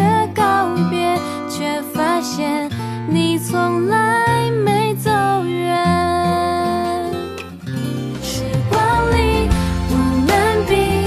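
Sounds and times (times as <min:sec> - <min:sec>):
pop ballad with singing: 0:00.0 - 0:11.0.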